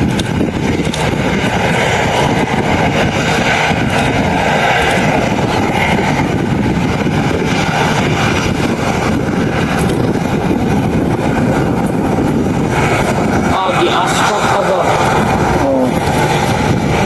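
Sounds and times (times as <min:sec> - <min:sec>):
aircraft engine rush: 0:00.0 - 0:17.0.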